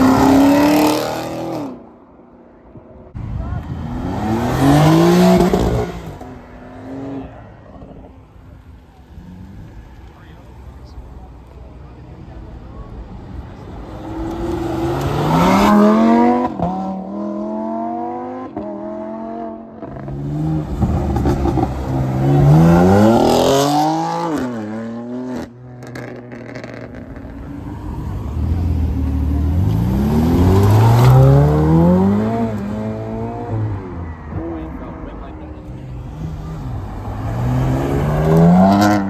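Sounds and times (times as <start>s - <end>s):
sports car engines accelerating: 3.2s - 39.0s.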